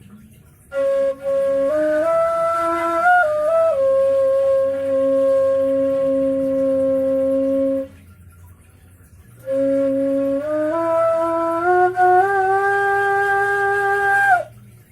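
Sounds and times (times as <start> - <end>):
end-blown flute notes: 0.7 - 7.9, 9.4 - 14.6.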